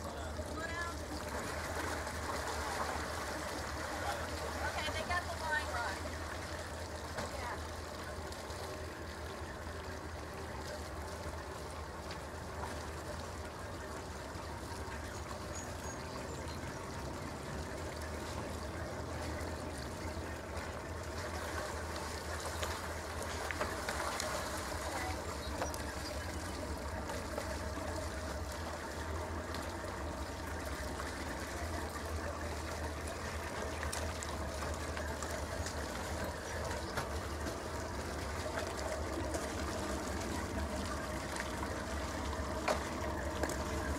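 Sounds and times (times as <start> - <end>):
boat engine idling: 0.0 - 43.9
wet exhaust gurgling: 0.0 - 43.9.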